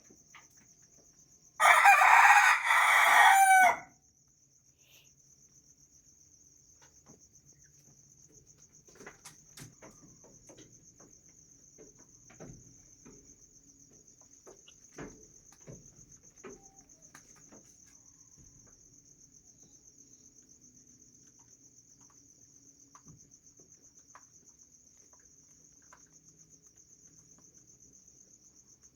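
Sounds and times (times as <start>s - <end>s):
high-pitched insect trill: 0.1s - 8.7s, 12.7s - 28.9s.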